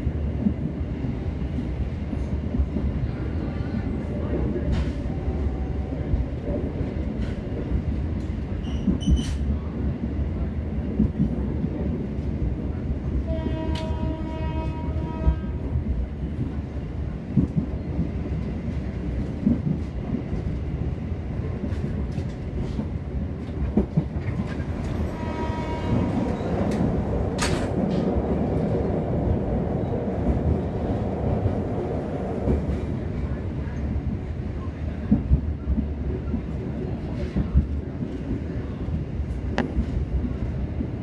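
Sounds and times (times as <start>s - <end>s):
train rumbling on track: 0.0s - 41.0s.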